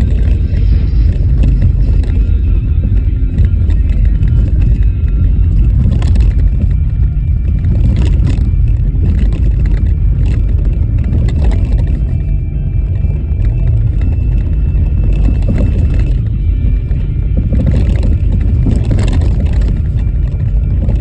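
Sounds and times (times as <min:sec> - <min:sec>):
tyres rumbling on snowy road: 0:00.0 - 0:21.0.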